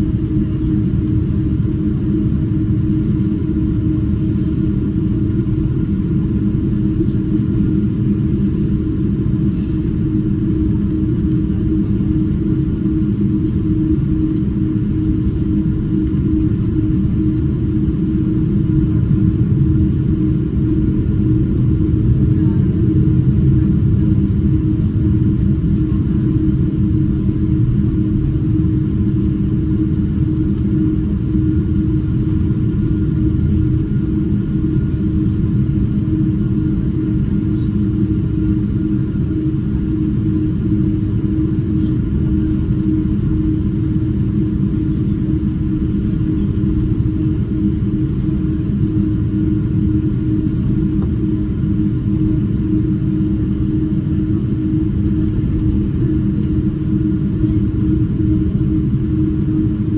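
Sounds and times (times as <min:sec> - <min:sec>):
constant cabin hum: 0:00.0 - 0:59.9
jet engine and airflow rumble: 0:00.0 - 0:59.9.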